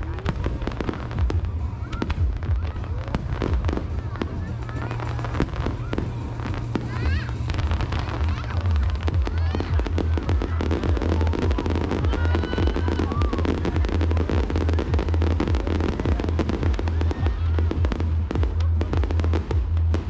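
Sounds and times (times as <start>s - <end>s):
fireworks bursts and crackles: 0.0s - 20.0s
music with heavy bass: 0.0s - 20.0s.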